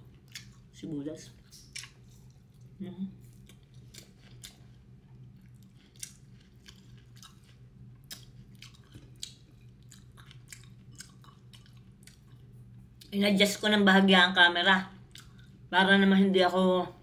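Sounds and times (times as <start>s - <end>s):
person chewing food: 0.0s - 13.2s, 15.0s - 15.7s
low steady hum: 0.0s - 17.0s.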